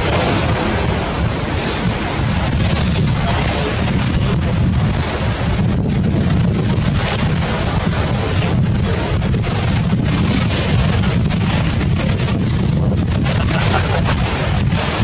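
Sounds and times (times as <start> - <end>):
sea waves rushing: 0.0 - 15.0
wind buffeting microphone: 0.0 - 15.0.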